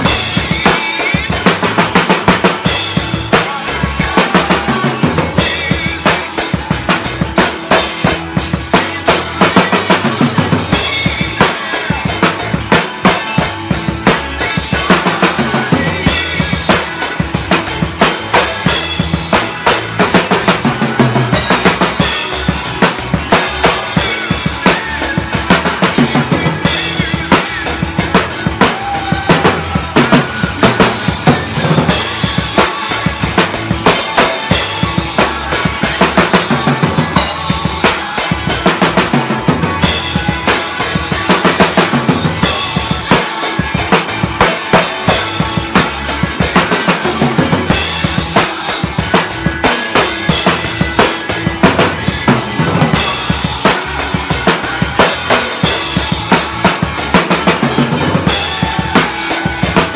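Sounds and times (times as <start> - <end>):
drum kit groove: 0.0 - 59.9.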